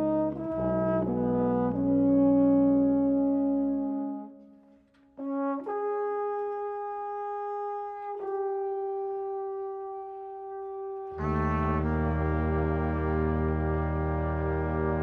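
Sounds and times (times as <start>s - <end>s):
brass instrument holding a note: 0.0s - 15.0s.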